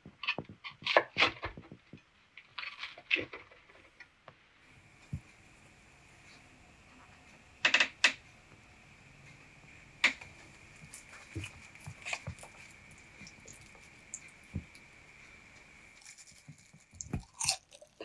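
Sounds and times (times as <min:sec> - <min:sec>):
faint high-pitched whine: 0:01.5 - 0:18.0.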